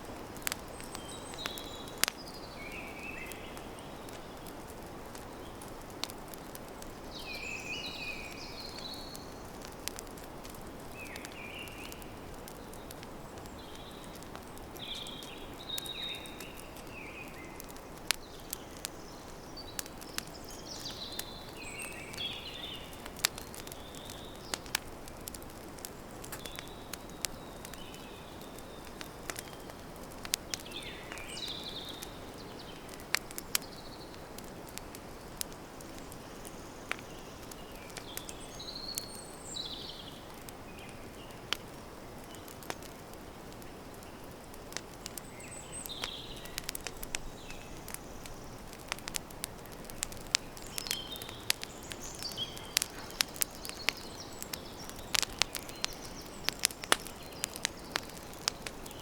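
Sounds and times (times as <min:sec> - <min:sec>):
campfire crackling and popping: 0:00.0 - 0:59.0
birds chirping: 0:06.5 - 0:10.0, 0:10.6 - 0:42.8, 0:43.6 - 0:59.0.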